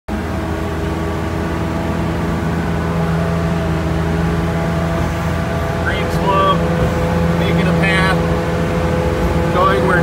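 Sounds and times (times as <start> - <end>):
diesel engine running: 0.1 - 10.0.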